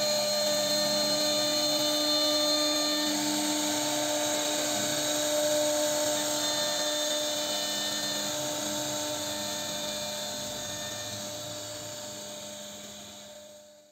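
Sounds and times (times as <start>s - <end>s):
router spindle whine: 0.0s - 13.9s.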